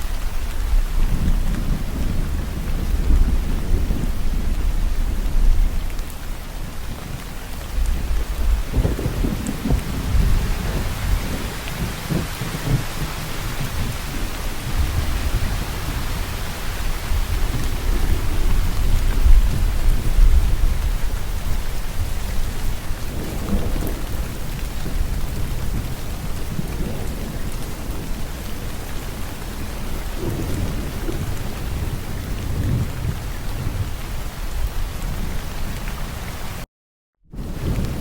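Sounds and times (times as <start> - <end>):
rolling thunder: 0.0 - 36.2, 37.3 - 38.0
heavy rainfall: 0.0 - 36.7, 37.3 - 38.0.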